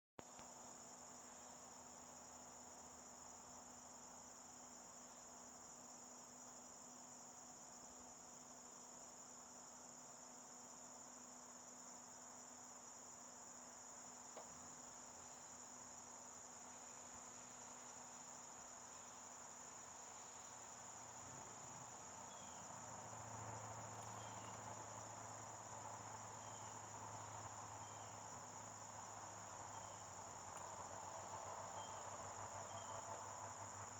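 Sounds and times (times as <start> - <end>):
crickets chirping: 0.2 - 33.9.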